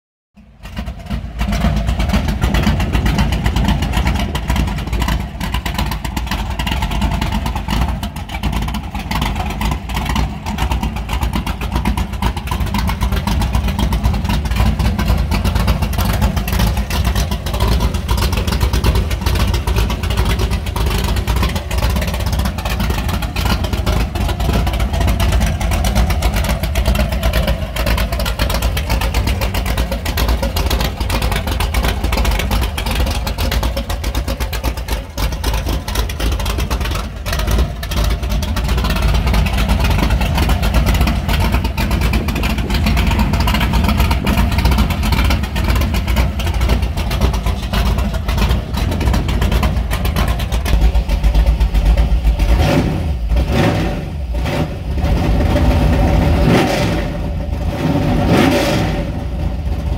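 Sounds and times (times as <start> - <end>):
car engine idling: 0.3 - 59.9.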